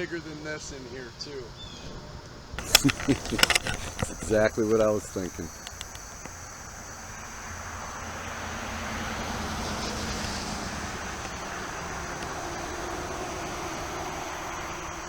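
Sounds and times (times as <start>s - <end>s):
rushing vehicle noise with low hum: 2.6s - 15.0s.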